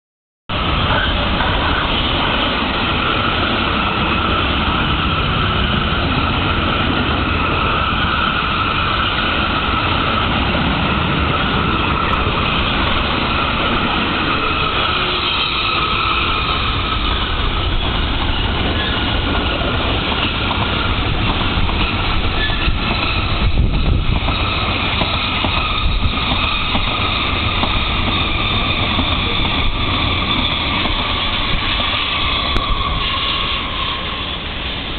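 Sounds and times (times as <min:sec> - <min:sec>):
electric trains rumbling: 0:00.5 - 0:34.9.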